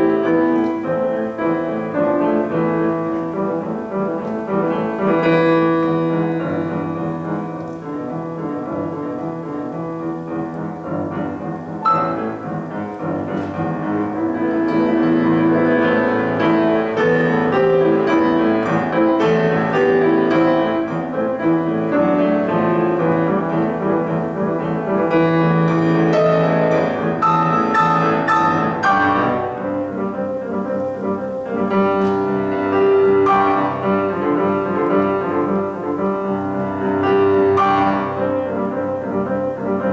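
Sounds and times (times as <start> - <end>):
solo grand piano: 0.0 - 39.9.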